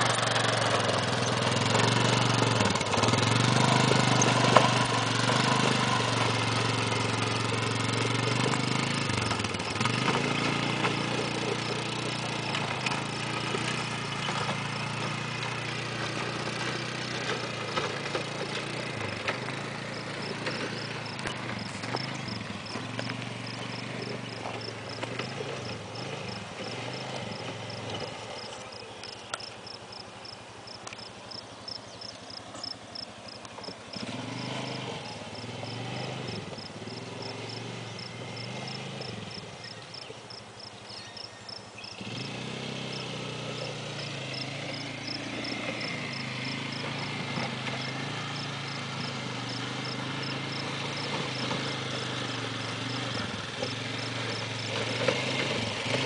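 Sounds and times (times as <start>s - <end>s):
distant quad engine revving: 0.0s - 56.0s.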